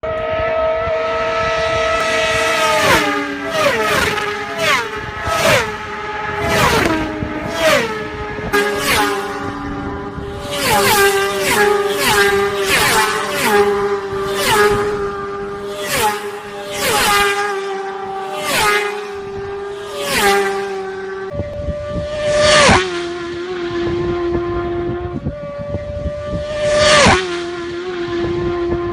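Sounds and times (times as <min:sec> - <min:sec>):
racing motorcycles passing by: 0:00.0 - 0:28.9.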